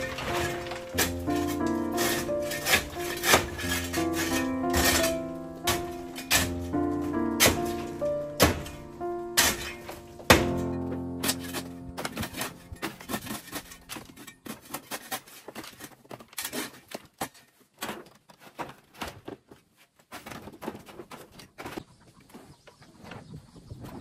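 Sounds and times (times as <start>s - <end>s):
metal shovel scraping and knocking: 0.0s - 19.4s.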